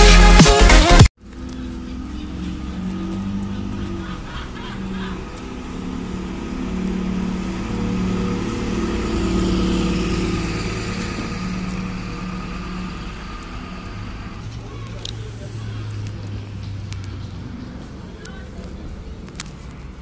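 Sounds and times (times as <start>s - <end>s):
bus engine driving past: 1.2s - 20.0s.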